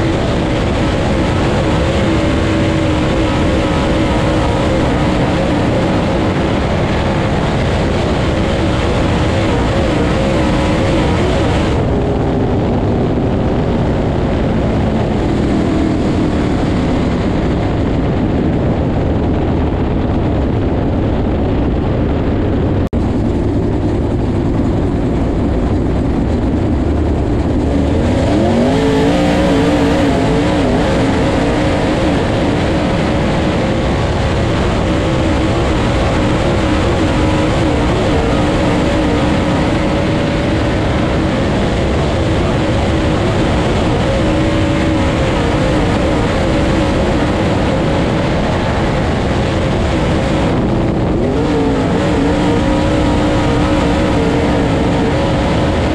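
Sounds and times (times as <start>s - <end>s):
race car engine revving: 0.0s - 21.9s, 22.7s - 55.9s
wind and road noise: 0.0s - 55.9s.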